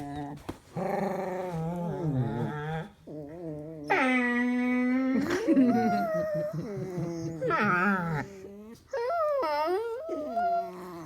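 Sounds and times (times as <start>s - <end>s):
dog moaning: 0.0s - 11.0s.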